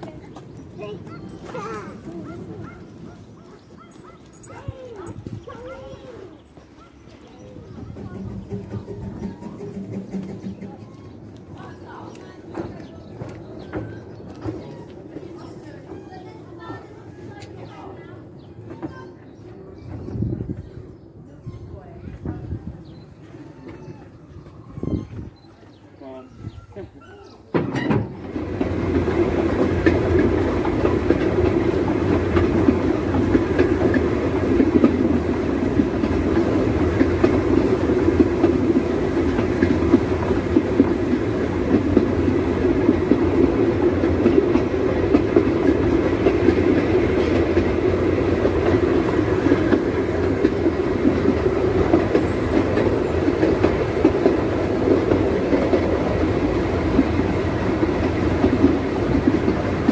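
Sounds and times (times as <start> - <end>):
train wheels clattering on rails: 0.0 - 20.7, 27.5 - 59.9.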